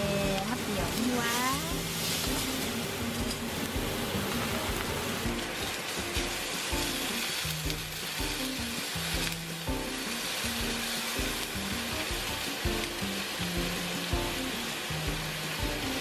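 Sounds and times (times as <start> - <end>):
background music with bass line: 0.0 - 16.0
steak sizzling: 0.0 - 16.0.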